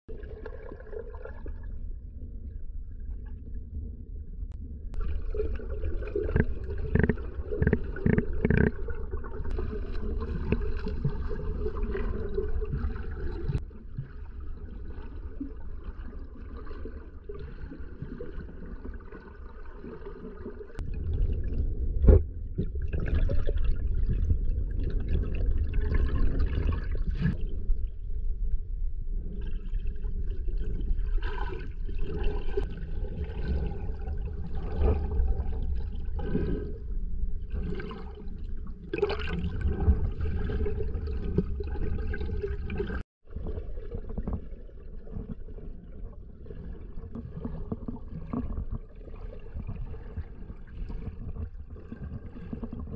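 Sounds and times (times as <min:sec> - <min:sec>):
muffled underwater stream rumble: 0:00.1 - 0:52.9.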